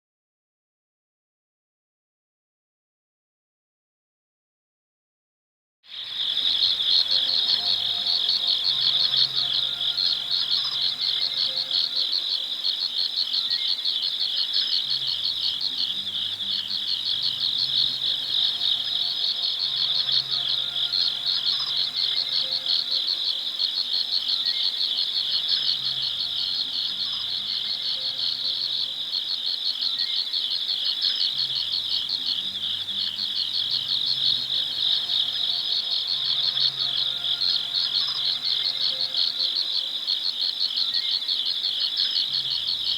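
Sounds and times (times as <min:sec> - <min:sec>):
crickets chirping: 0:05.9 - 0:42.9.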